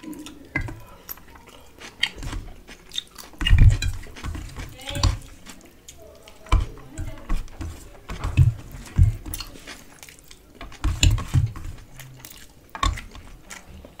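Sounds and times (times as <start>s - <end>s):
fingers mixing rice in bowl: 0.0s - 14.0s
person chewing and smacking: 0.0s - 14.0s.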